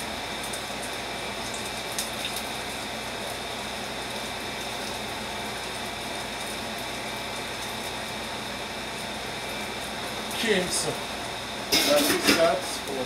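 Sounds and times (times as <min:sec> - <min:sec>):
oil sizzling frying food: 0:00.0 - 0:13.0.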